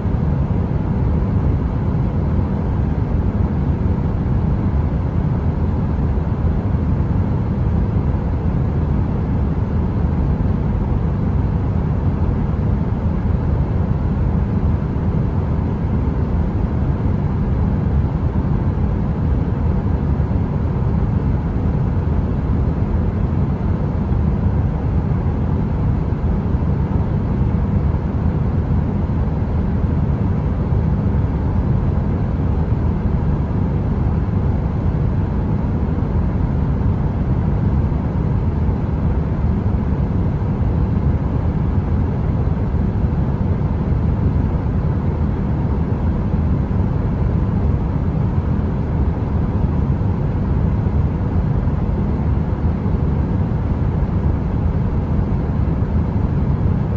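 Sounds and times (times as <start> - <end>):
faint hum: 0.0 - 56.9.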